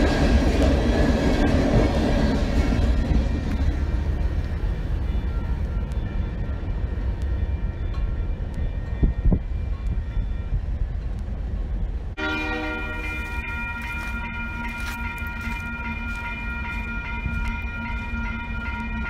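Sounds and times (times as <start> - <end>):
crossing warning bell ringing: 0.0 - 11.1, 12.2 - 19.0
train wheels rumbling: 0.0 - 19.0.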